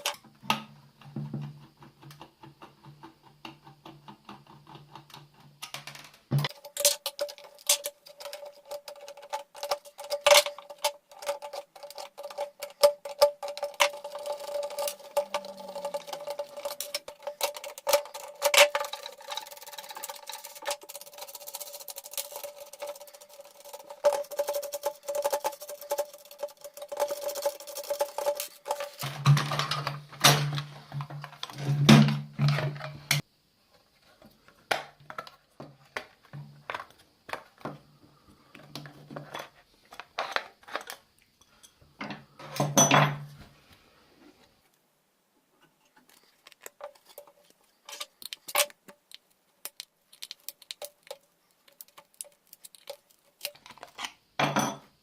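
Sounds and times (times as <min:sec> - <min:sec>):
metal and plastic parts clattering: 0:00.0 - 0:33.2, 0:38.6 - 0:43.3, 0:45.9 - 0:49.0, 0:49.6 - 0:54.9.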